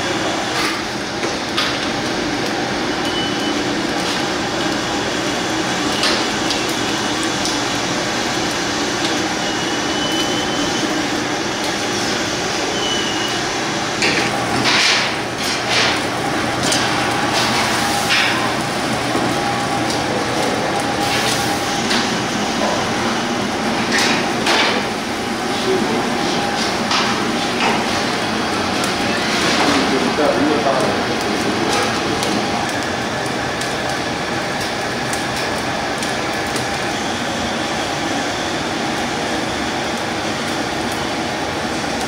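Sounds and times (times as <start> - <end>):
steady kitchen hum: 0.0 - 42.0.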